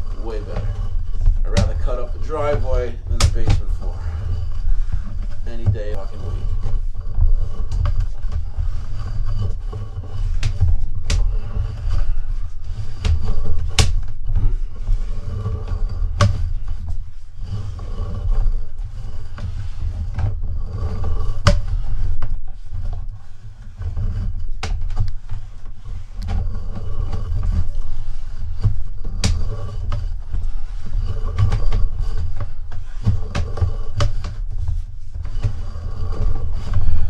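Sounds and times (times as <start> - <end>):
low rumble of camera cable in pipe: 0.0 - 37.0.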